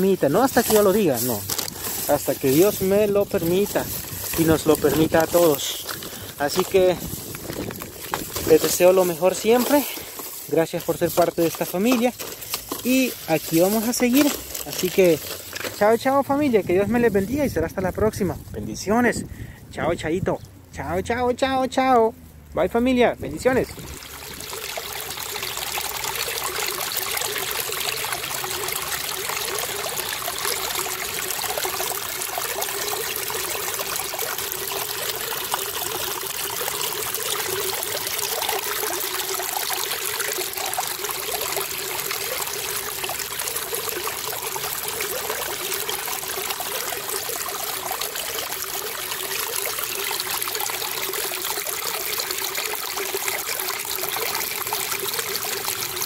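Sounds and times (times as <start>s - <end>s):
stream splashing over rocks: 0.0s - 17.8s, 23.3s - 56.0s.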